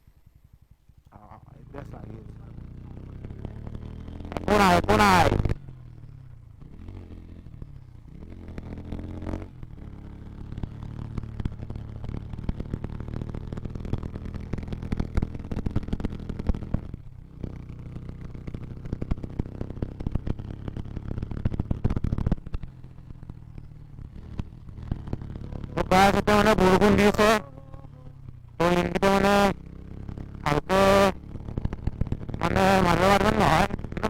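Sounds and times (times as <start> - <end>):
motorcycle engine riding: 0.0 - 34.0.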